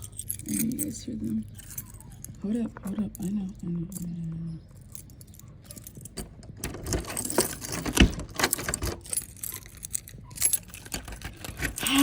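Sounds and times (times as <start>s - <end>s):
dog collar tags jangling: 0.0s - 12.0s.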